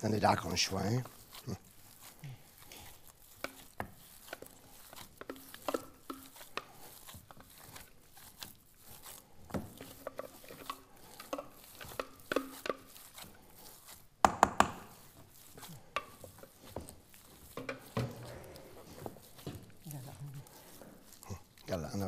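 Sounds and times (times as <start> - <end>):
dough squelching: 0.0 - 22.0
spoon scraping metal bowl: 0.1 - 22.0.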